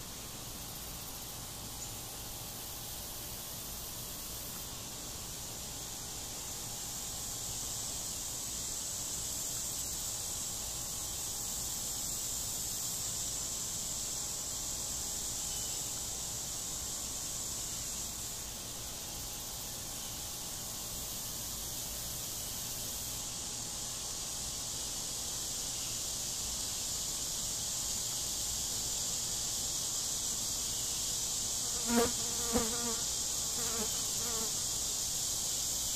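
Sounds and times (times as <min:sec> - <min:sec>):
high-pitched outdoor hiss: 0:00.0 - 0:35.9.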